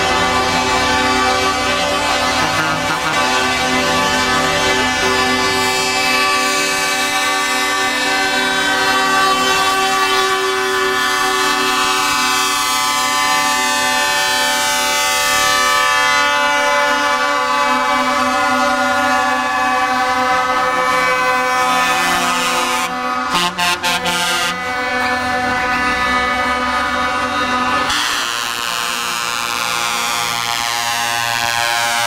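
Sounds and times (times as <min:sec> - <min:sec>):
truck air horns blasting: 0:00.0 - 0:32.0.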